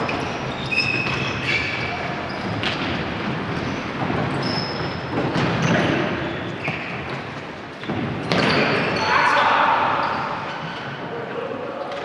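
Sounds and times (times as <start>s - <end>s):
sneakers squeaking on wooden floor: 0.0s - 9.2s, 10.0s - 11.2s.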